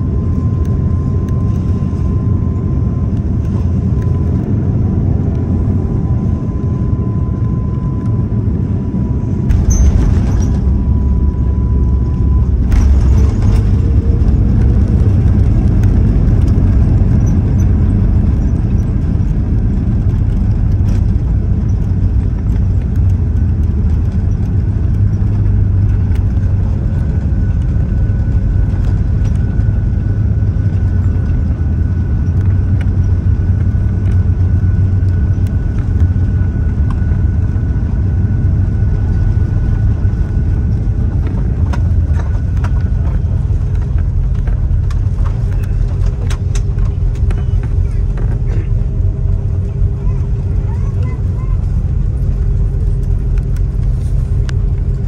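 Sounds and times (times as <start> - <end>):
faint steady whine: 0.0 - 55.0
jet engine cabin rumble: 0.0 - 55.0.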